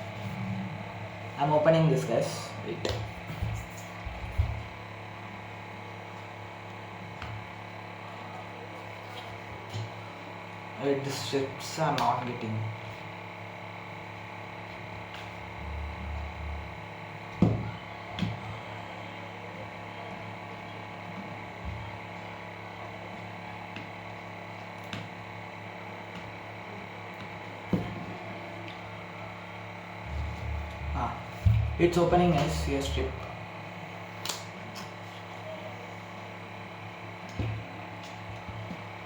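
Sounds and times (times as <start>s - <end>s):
electrical hum: 0.0s - 39.0s.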